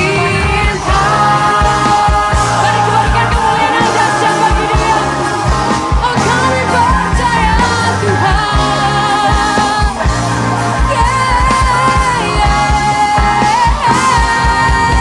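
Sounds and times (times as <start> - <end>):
band playing: 0.0 - 15.0
person singing: 0.0 - 15.0.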